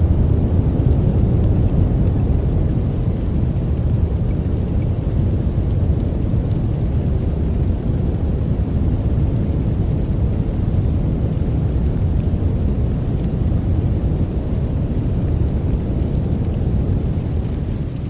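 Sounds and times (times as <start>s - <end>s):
deep brown noise: 0.0s - 18.0s.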